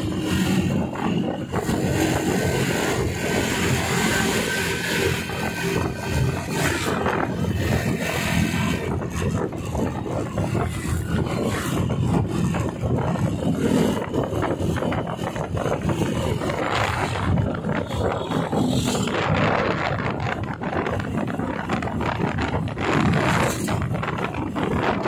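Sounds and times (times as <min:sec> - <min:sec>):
motorcycle engine running loud: 0:00.0 - 0:25.0.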